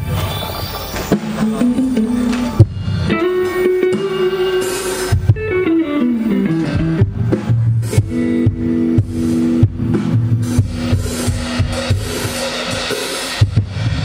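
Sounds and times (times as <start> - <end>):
bass: 0.0 - 14.0
electric guitar: 0.0 - 14.0.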